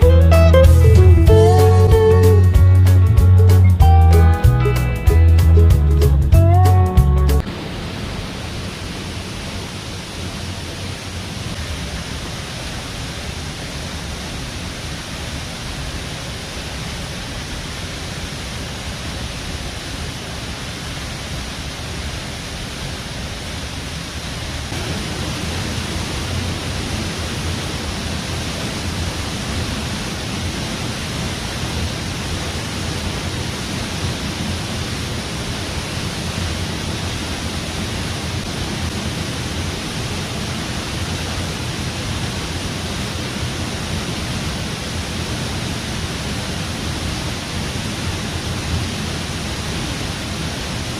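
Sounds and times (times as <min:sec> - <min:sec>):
waterfall rushing: 0:00.0 - 0:06.1, 0:06.7 - 0:50.9.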